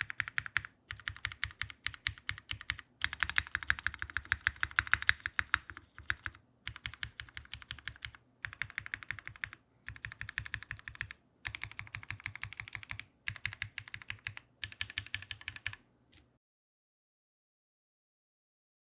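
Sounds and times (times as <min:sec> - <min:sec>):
typing on mechanical keyboard: 0:00.0 - 0:15.8.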